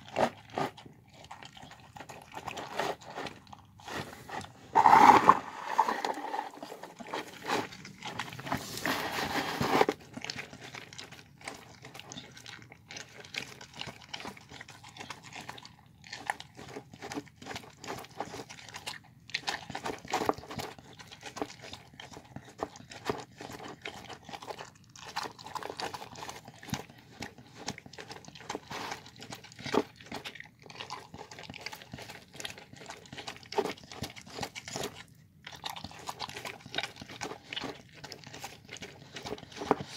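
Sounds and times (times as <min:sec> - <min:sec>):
dog chewing wet food: 0:00.0 - 0:39.9.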